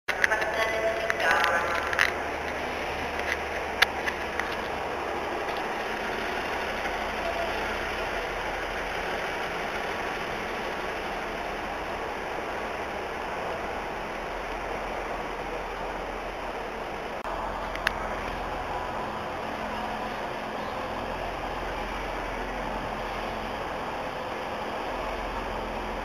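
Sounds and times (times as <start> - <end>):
idling train running noise: 0.1 - 26.0.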